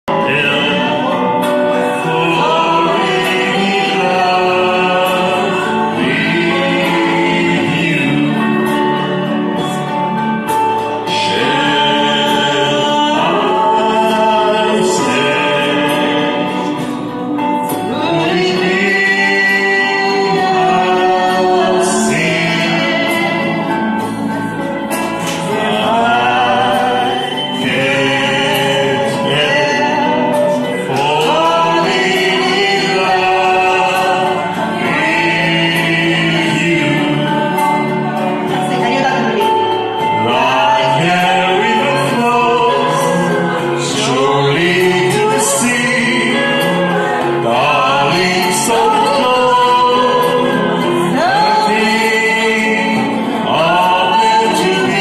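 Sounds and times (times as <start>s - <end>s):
karaoke backing track: 0.0s - 55.0s
man and woman singing: 0.1s - 55.0s.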